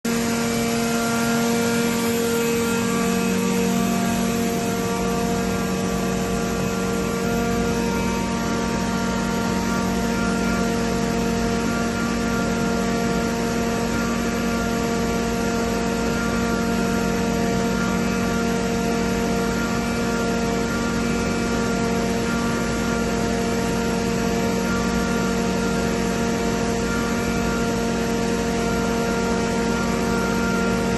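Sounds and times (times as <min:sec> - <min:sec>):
air compressor humming: 0:00.0 - 0:30.9.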